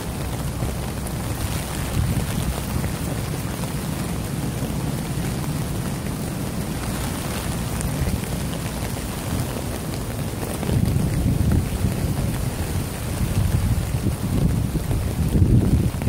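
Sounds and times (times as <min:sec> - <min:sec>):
gusty wind rumble: 0:00.0 - 0:16.0
rain on a tarp: 0:00.0 - 0:16.0.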